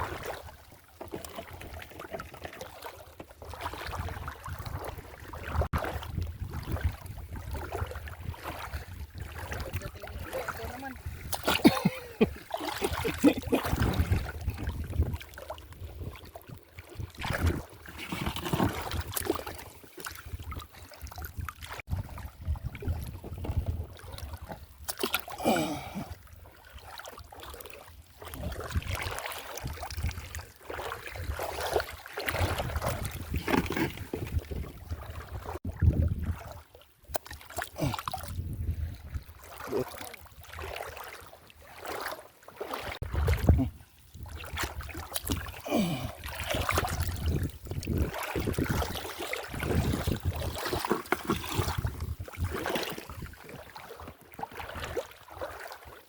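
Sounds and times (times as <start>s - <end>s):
water sloshing and splashing: 0.0s - 56.0s.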